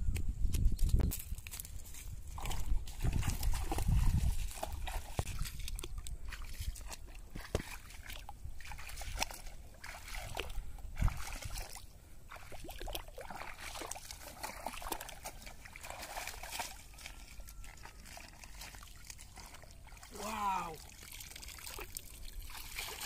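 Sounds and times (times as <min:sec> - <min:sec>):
water splashing and sloshing: 0:01.3 - 0:23.0.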